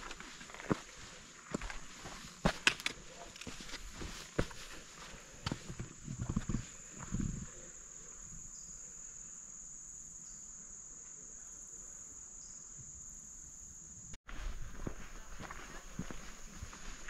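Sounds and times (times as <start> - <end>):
short fainter insect calls: 0.0 - 14.2
high-pitched insect chorus: 0.0 - 17.0.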